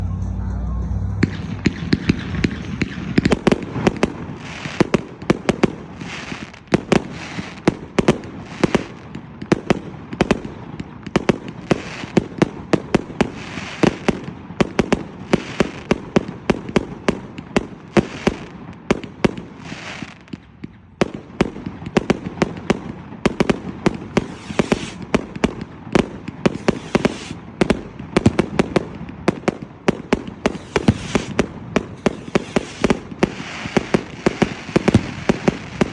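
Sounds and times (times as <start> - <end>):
firework cake rapid shots: 1.2 - 20.4, 21.0 - 35.9.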